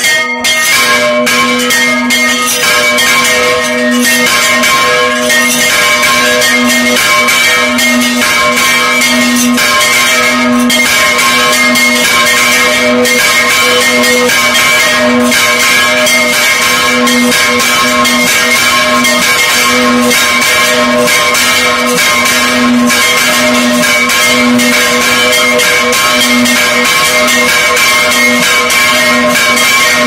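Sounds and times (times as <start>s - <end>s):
church bells clanging: 0.0s - 30.0s.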